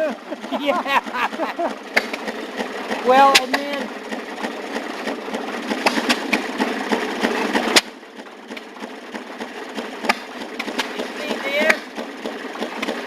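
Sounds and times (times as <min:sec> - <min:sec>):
two-stroke engine knocking: 0:00.0 - 0:13.0.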